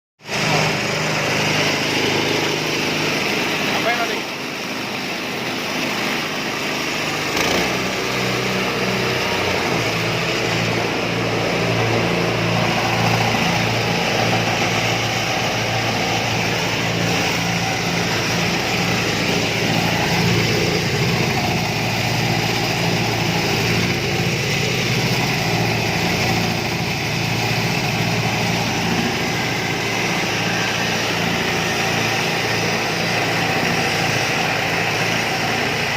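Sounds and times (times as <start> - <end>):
grinding machine engine hum: 0.2 - 35.9.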